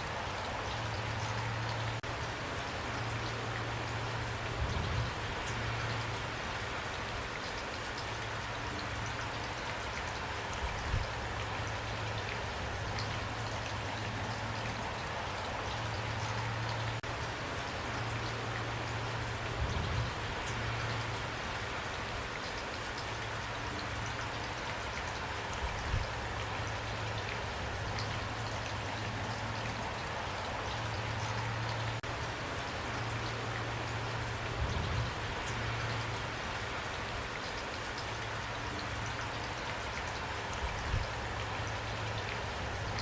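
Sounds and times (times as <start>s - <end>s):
rain falling: 0.0s - 43.0s
raindrops clicking close by: 0.0s - 43.0s.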